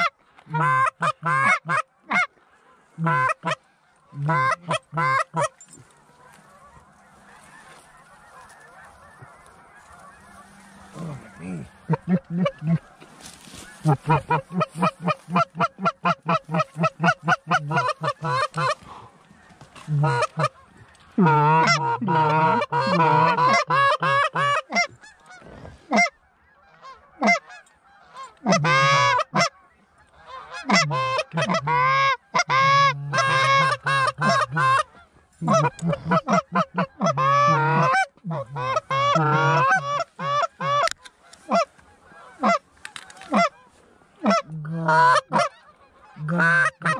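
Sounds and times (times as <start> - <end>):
goose clucking: 0.0 - 46.9
goose honking: 0.0 - 46.9.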